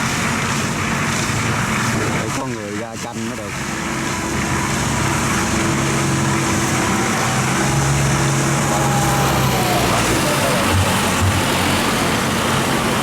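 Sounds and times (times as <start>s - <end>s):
diesel barge engine droning: 0.0s - 13.0s.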